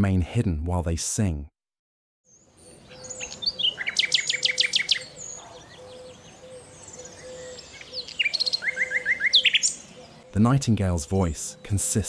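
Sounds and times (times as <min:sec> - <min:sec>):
nightingale singing: 0:02.3 - 0:12.0.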